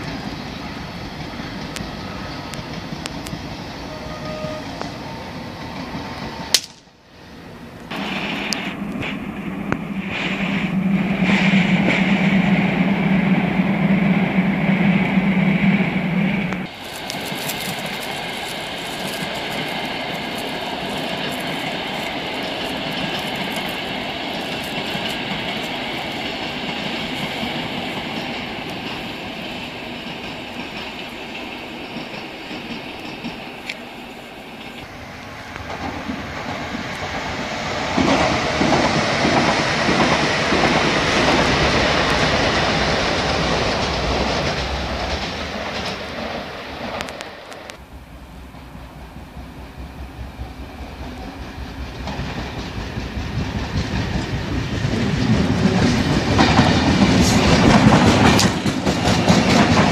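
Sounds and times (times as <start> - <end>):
passenger train on rails: 0.0 - 59.9.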